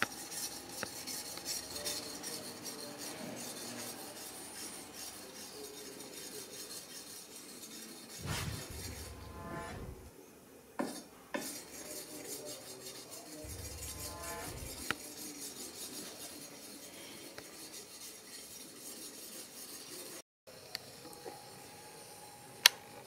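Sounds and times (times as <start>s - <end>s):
wood rubbing on steel blade: 0.0s - 10.1s, 11.4s - 20.2s.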